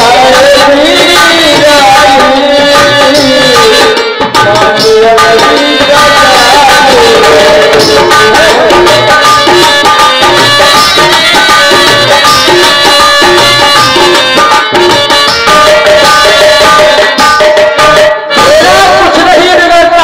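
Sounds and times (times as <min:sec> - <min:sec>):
drum beat: 0:00.0 - 0:19.8.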